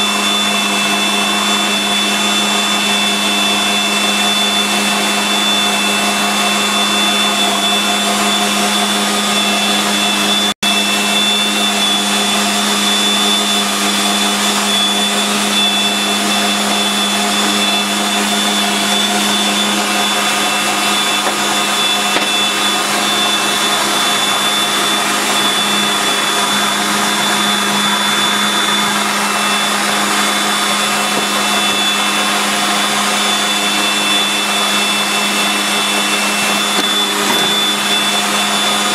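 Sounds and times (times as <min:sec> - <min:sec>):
food processor motor running: 0:00.0 - 0:38.9.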